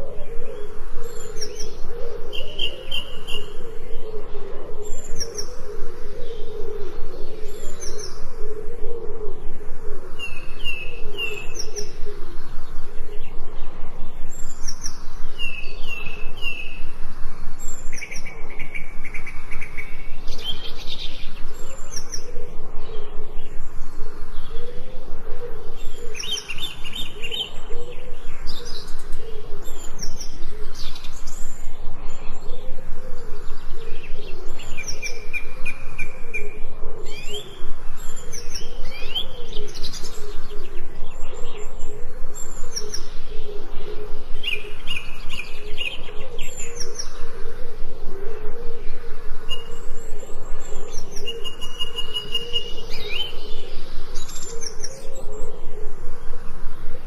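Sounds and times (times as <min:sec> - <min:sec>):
songbirds chirping and singing: 0:00.0 - 0:57.0.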